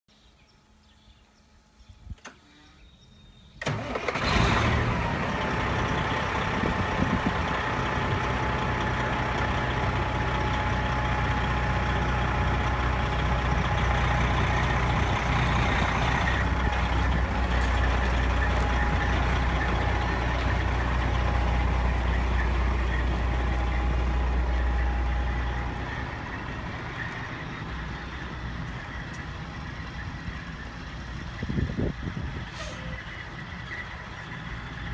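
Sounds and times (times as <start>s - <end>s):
truck diesel engine starting and idling: 3.5s - 34.9s.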